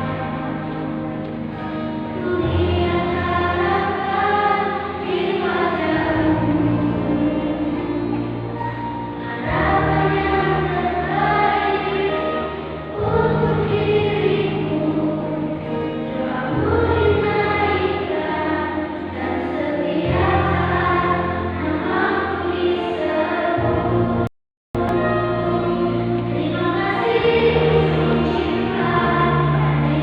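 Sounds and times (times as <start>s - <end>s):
children's choir singing: 0.0s - 30.0s.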